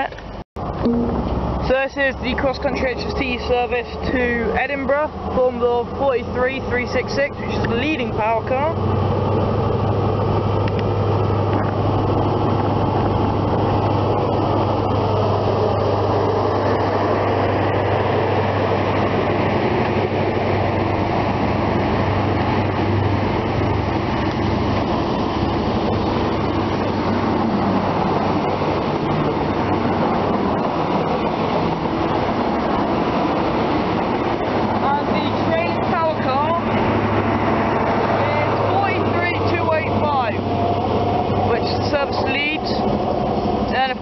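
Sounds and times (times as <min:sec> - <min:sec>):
diesel engine drone: 0:00.0 - 0:44.0
train coaches rumbling past: 0:00.6 - 0:44.0.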